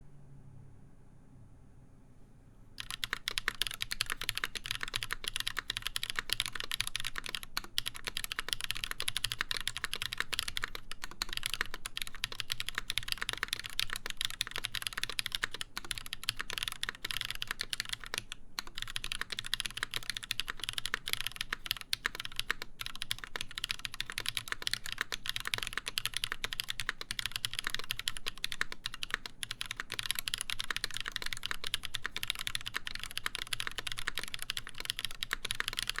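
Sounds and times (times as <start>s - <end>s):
mechanical keyboard typing: 2.8s - 36.0s.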